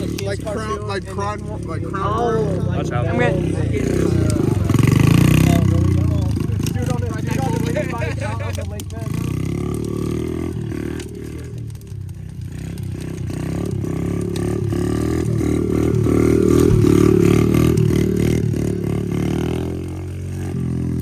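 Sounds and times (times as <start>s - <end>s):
vehicle engine running with rattle: 0.0s - 21.0s.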